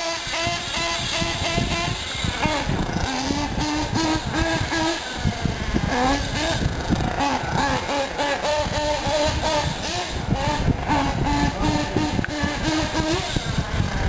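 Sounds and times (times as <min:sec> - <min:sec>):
model truck nitro engine revving: 0:00.0 - 0:14.0.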